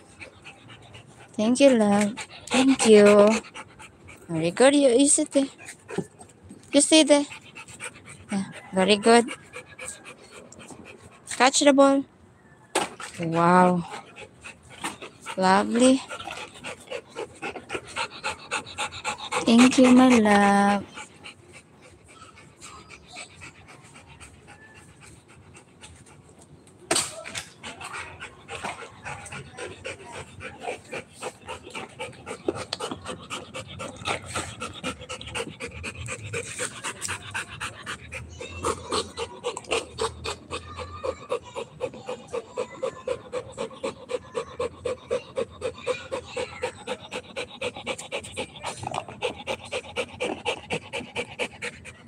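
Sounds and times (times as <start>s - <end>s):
dog panting: 0.0s - 12.1s, 12.9s - 52.0s.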